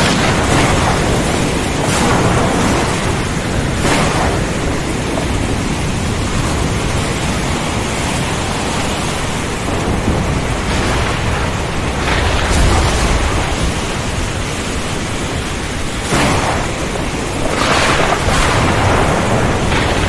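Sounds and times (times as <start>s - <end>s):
heavy rain and wind: 0.0s - 20.0s
thunder rumbling: 0.0s - 20.0s.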